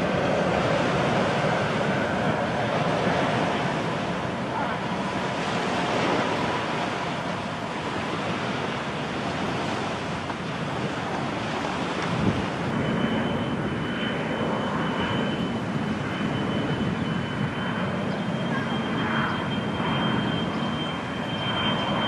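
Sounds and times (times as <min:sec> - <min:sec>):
jet airliner engines roaring: 0:00.0 - 0:22.0
thin high whine: 0:00.0 - 0:22.0
wind on microphone: 0:00.0 - 0:22.0.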